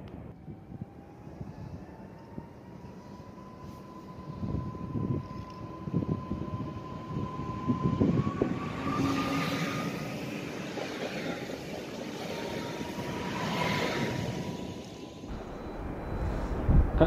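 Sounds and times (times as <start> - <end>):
electric train whine: 0.1 - 17.0
passing train rumble: 0.1 - 17.0.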